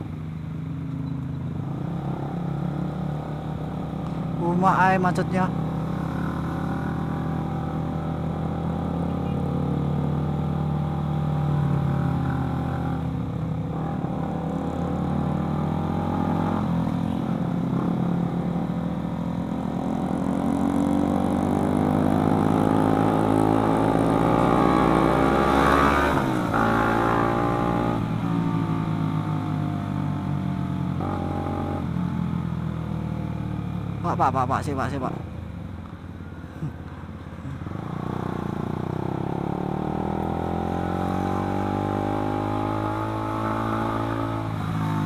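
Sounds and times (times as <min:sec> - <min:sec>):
motorcycle engine accelerating: 0:00.0 - 0:45.0
wind and road noise: 0:00.0 - 0:45.0.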